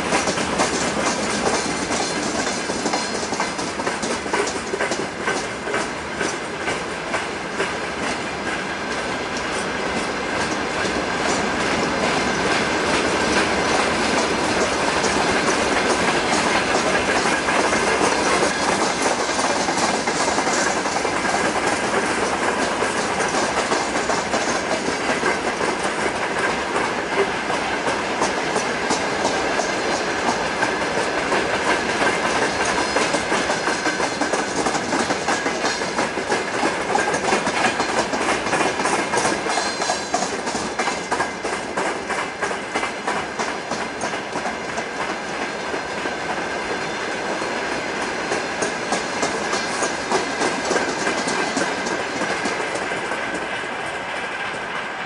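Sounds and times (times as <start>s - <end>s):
train wheels clattering on track: 0.0s - 55.0s.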